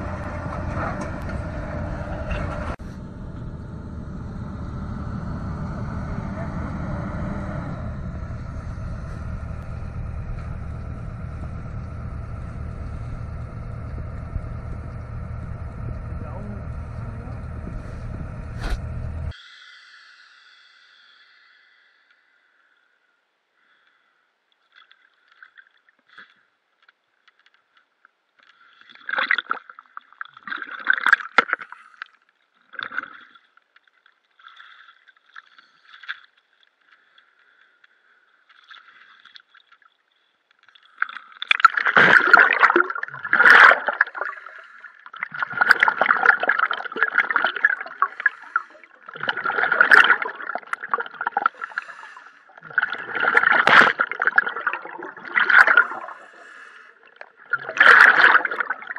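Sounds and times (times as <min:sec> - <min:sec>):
water sloshing and gurgling: 0:00.0 - 0:58.9
water splashing and bubbling: 0:05.6 - 0:19.9, 0:24.6 - 0:27.7, 0:28.4 - 0:58.9.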